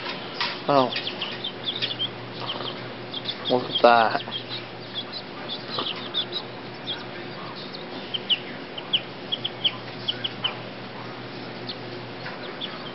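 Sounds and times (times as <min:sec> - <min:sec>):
baby chicks peeping: 0:00.0 - 0:12.9
steady low hum: 0:00.0 - 0:12.9.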